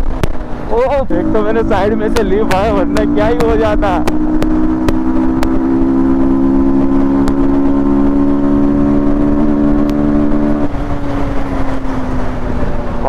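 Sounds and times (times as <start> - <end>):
motorcycle engine at high revs: 0.0 - 13.0
wind rush: 0.0 - 13.0.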